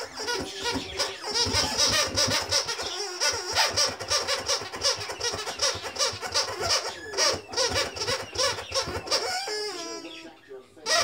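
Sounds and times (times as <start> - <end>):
squeaky toy squeaking: 0.0 - 11.0.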